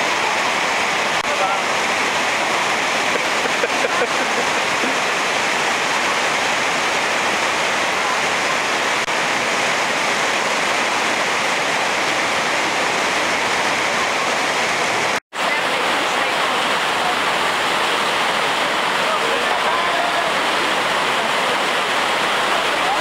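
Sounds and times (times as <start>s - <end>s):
creek water rushing over rock: 0.0s - 23.0s.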